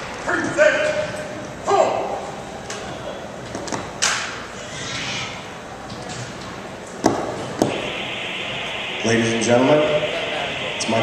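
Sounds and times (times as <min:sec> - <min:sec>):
crowd murmuring in echoing hall: 0:00.0 - 0:11.0.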